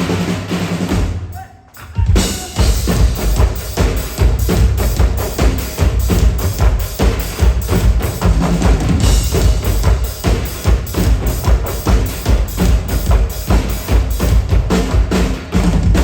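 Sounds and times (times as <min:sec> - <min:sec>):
drums and percussion beat: 0:00.0 - 0:16.0
deep bass drum: 0:02.1 - 0:16.0.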